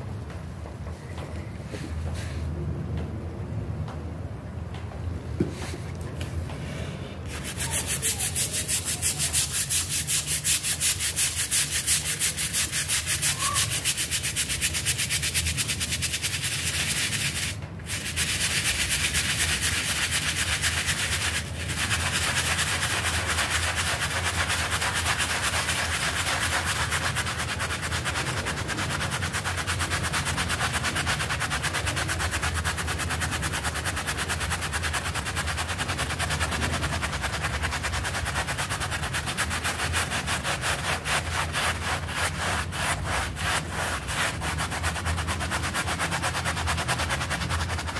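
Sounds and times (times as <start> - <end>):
scrub brush scrubbing wet carpet: 7.2 - 47.9.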